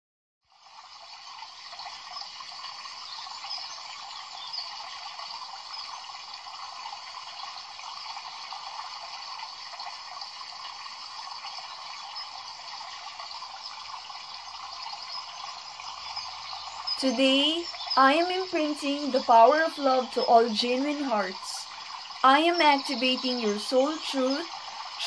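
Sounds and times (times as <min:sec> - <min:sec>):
running water splashing: 0:00.5 - 0:25.0.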